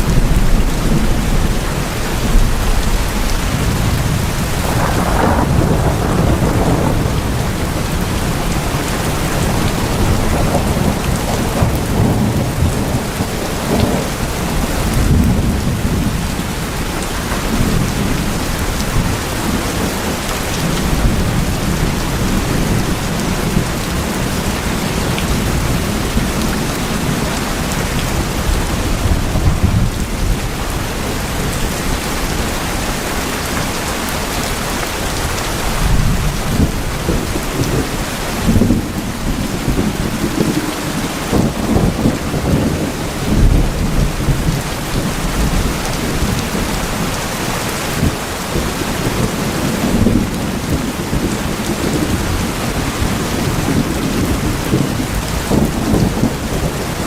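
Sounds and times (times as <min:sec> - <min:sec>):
heavy rain on tin roofs: 0:00.0 - 0:57.0
thunder rumbling: 0:00.0 - 0:57.0.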